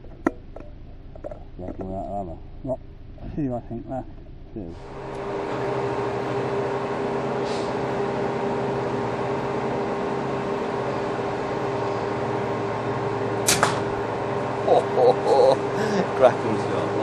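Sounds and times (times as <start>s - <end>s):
constant whine: 0.0s - 17.0s
mechanical hum: 0.0s - 17.0s.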